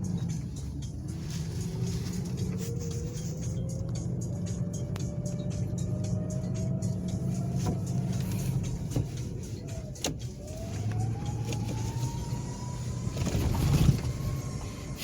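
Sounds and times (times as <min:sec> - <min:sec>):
car driving drone and whine: 0:00.0 - 0:15.0.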